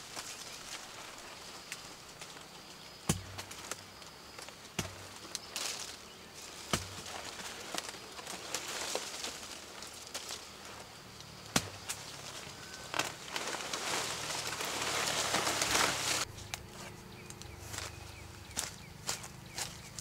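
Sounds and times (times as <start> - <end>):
leaves and branches rustling: 0.0 - 20.0.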